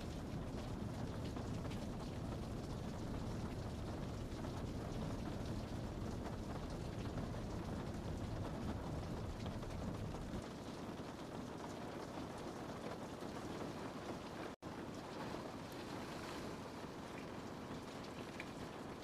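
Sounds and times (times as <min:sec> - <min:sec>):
rain on window glass: 0:00.0 - 0:19.0.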